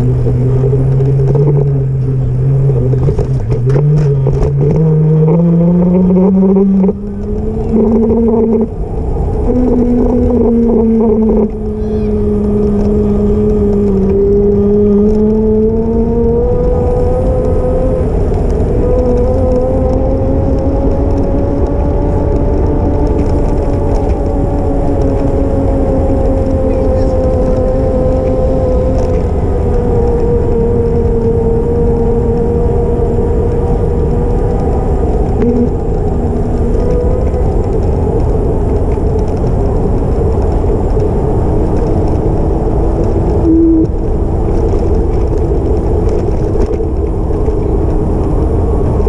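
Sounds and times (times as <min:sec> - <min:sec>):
low rumble: 0:00.0 - 0:49.0.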